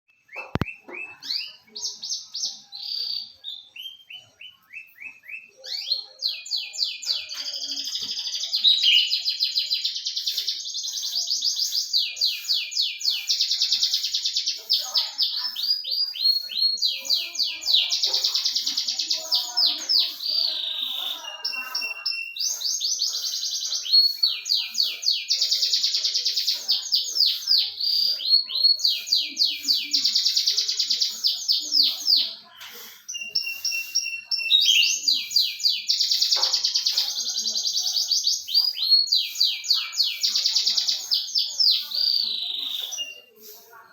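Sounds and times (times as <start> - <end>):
canary singing trills: 0.1 - 43.9.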